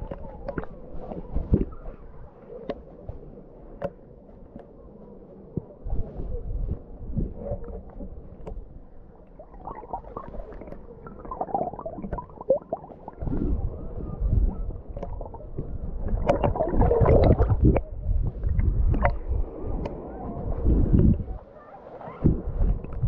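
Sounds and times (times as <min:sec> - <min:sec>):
sea water sloshing and gurgling: 0:00.0 - 0:04.2, 0:05.4 - 0:23.0.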